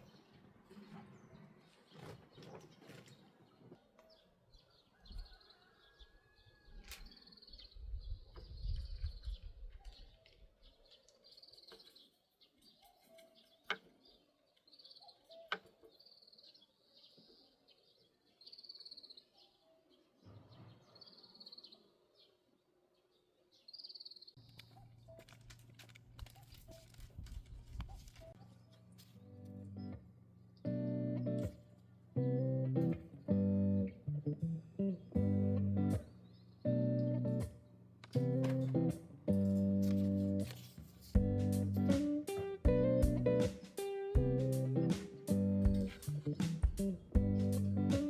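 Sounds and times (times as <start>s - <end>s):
small birds chirping faintly: 0.0s - 48.0s.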